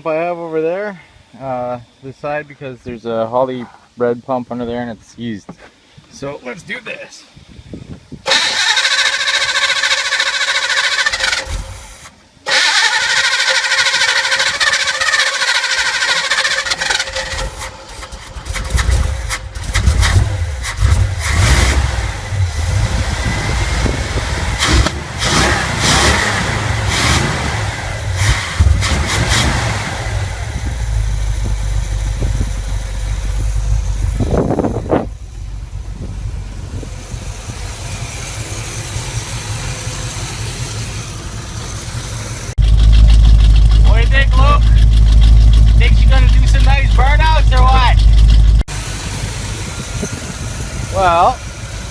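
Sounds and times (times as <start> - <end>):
car engine cranking and idling: 7.8 - 51.9.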